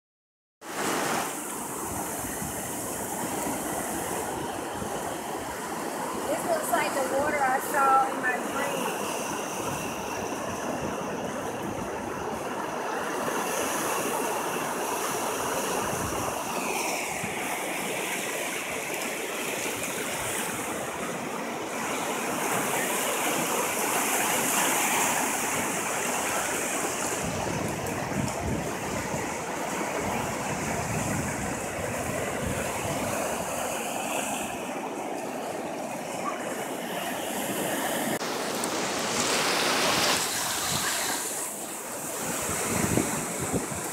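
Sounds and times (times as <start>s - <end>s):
ocean surf on rocks: 0.6s - 43.9s.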